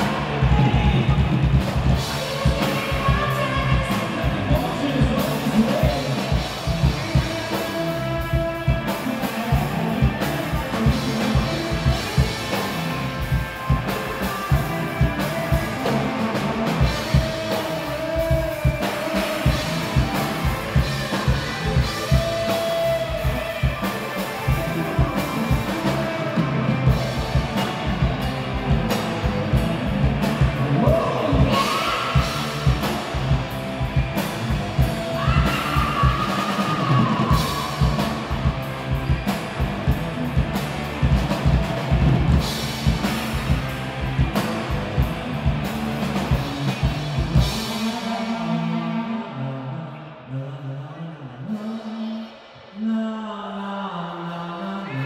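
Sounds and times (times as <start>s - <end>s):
drum kit: 0.0s - 49.0s
rock band playing live: 0.0s - 49.4s
guitars: 0.0s - 50.3s.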